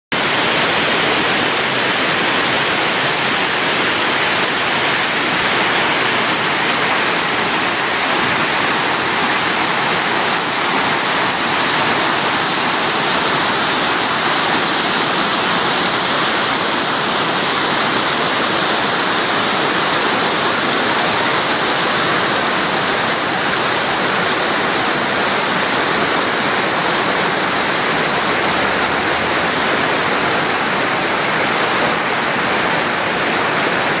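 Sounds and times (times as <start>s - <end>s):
waterfall rushing over rocks: 0.1s - 34.0s.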